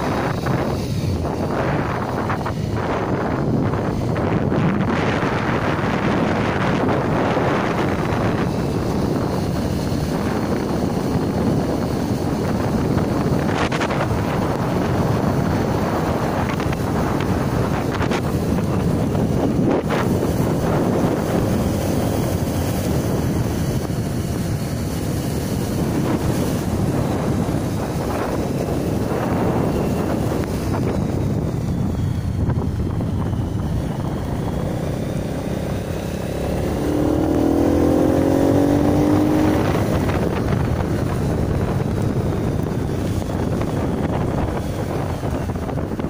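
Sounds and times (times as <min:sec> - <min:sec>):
wind rushing over microphone: 0:00.0 - 0:46.0.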